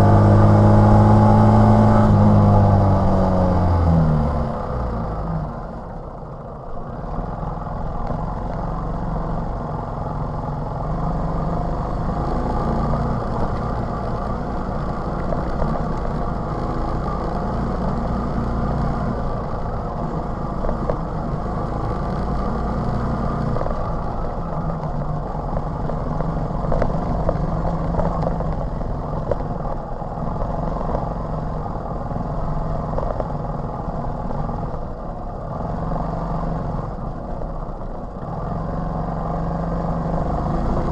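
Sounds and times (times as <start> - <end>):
moped engine running: 6.9 - 40.9.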